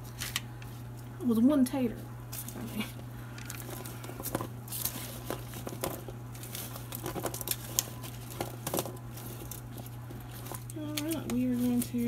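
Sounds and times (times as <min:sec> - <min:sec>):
foil crinkling: 0:02.3 - 0:12.0.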